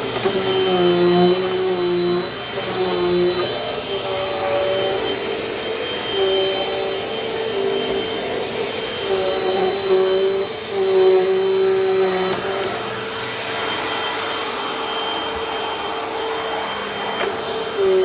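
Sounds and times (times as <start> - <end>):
vacuum cleaner on carpet: 0.0 - 18.0.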